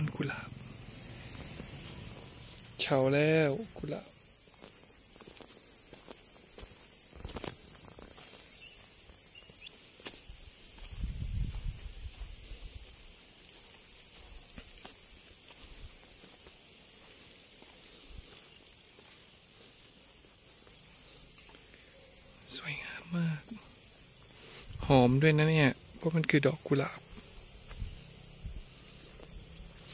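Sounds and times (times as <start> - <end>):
insects droning: 0.0 - 29.9.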